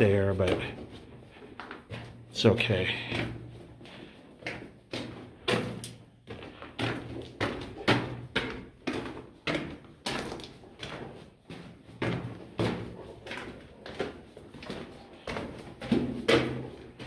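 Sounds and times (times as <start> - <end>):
footsteps on dirt floor: 0.0 - 17.0.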